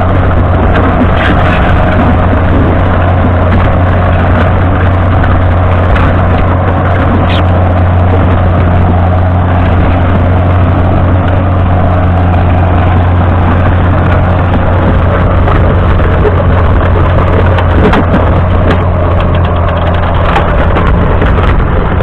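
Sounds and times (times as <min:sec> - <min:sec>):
constant rushing noise: 0:00.0 - 0:22.0
tractor diesel engine under load: 0:00.0 - 0:22.0.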